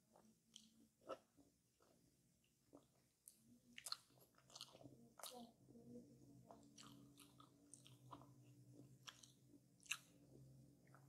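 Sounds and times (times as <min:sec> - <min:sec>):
soft moist chewing: 0:00.0 - 0:11.0.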